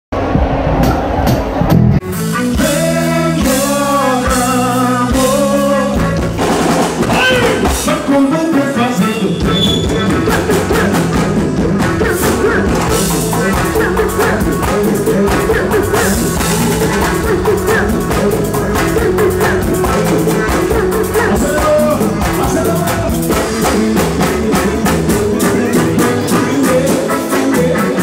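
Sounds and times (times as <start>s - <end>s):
bass: 0.1s - 28.0s
keyboard: 0.2s - 28.0s
congas and timbales groove: 4.4s - 28.0s.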